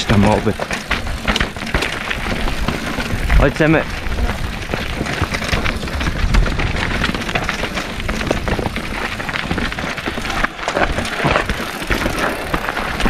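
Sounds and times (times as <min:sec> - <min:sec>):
bike clacking and rattling: 0:00.0 - 0:13.0
tyres crunching on loose stones: 0:00.0 - 0:13.0
wind rumble on microphone: 0:01.0 - 0:11.6.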